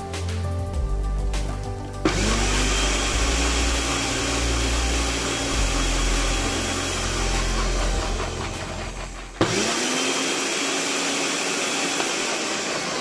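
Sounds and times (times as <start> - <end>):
blender motor whining: 2.0 - 13.0.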